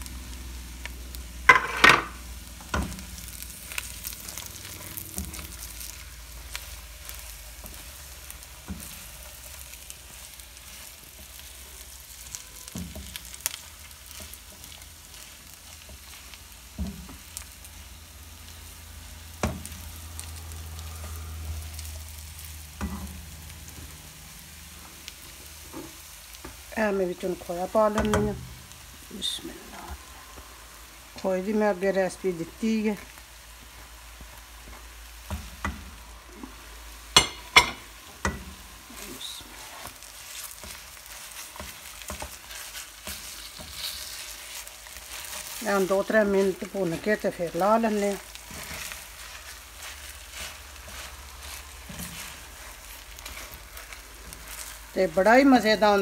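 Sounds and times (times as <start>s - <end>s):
faint sizzling: 0.0s - 56.0s
spatula scraping a wok: 1.5s - 26.6s, 33.6s - 56.0s.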